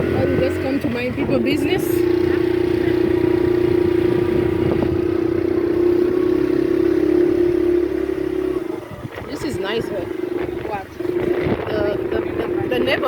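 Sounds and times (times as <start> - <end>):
motorcycle engine drone: 0.0 - 13.0.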